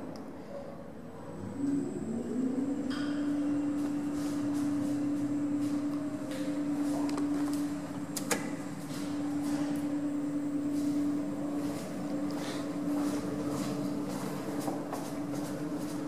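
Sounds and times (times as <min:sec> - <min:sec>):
elevator machinery humming: 0:00.9 - 0:16.0.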